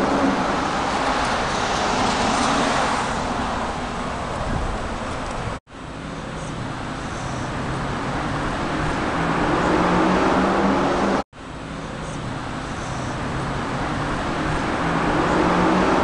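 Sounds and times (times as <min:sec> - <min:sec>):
cars driving past: 0:00.0 - 0:05.6, 0:06.6 - 0:11.2, 0:12.1 - 0:16.0
vehicle engine: 0:00.0 - 0:16.0.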